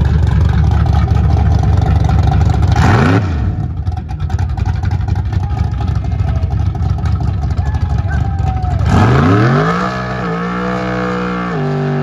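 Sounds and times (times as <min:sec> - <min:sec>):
pickup truck engine revving: 0:00.0 - 0:05.3, 0:06.6 - 0:12.0.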